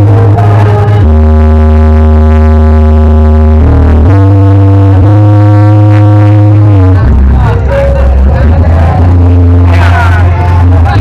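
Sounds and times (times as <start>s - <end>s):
loud bass and synth music: 0.0s - 11.0s.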